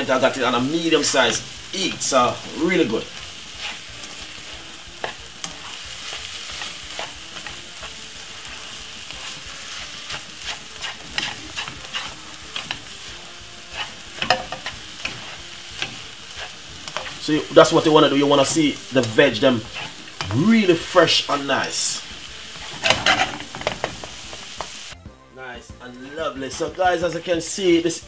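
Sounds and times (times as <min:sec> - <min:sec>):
food sizzling in a frying pan: 0:00.0 - 0:25.0, 0:25.8 - 0:28.0
spatula scraping a pan: 0:00.0 - 0:25.0.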